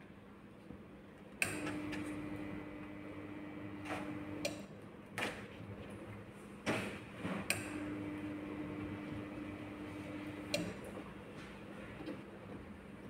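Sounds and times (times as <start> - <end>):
heat press electrical hum: 0.0 - 13.0.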